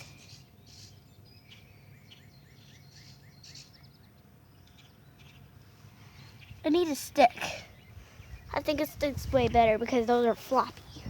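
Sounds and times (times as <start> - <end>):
distant birds chirping: 0.0 - 11.0
faint steady hum: 0.0 - 11.0.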